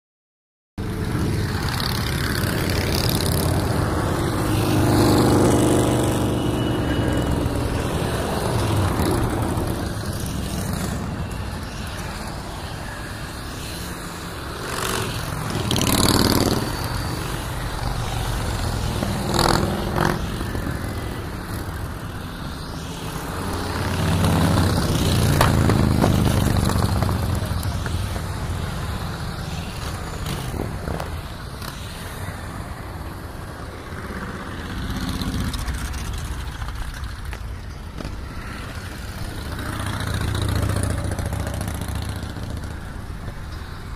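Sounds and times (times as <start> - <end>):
motorcycles rumbling past: 0.8 - 43.9.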